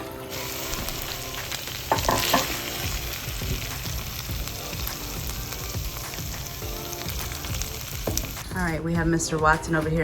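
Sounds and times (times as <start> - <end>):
food sizzling in skillet: 0.1 - 8.6.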